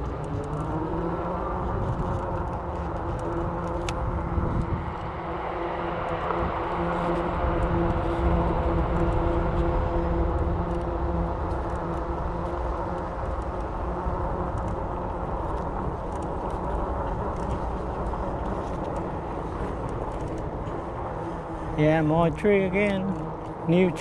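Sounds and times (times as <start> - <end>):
electric bike motor whine: 0.0 - 24.0
wind rumble on microphone: 0.0 - 24.0.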